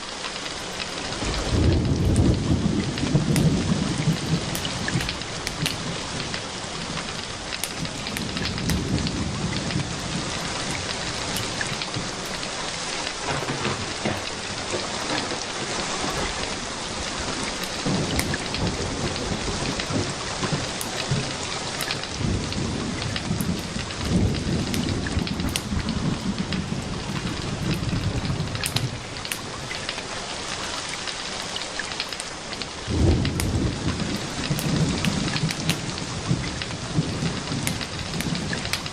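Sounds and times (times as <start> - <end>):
steady rain: 0.0 - 38.9
low thunder rumbling: 0.8 - 30.6, 32.4 - 38.9.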